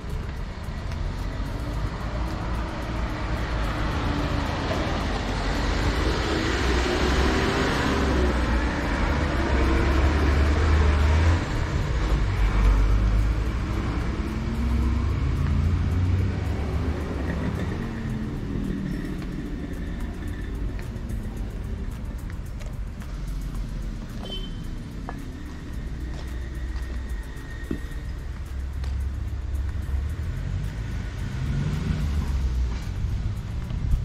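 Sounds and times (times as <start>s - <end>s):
low traffic rumble: 0.0s - 34.0s
vehicle passing: 0.0s - 34.0s.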